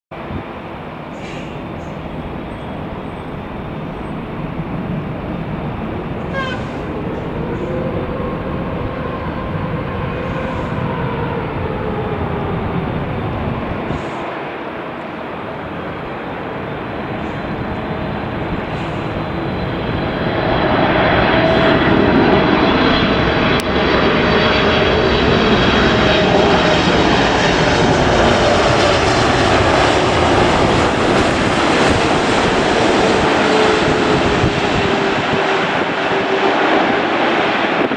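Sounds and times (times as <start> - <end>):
jet engines rumbling and whining: 0.1 - 37.9.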